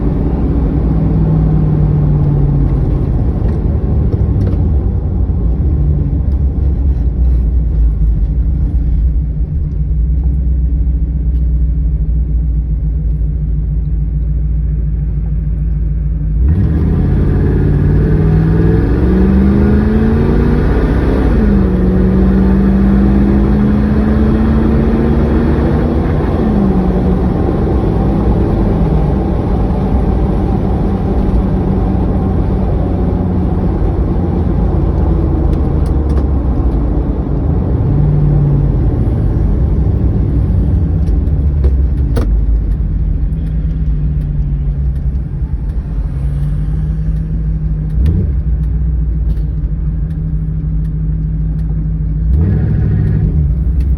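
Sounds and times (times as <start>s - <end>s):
engine accelerating and slowing: 0.0s - 53.9s.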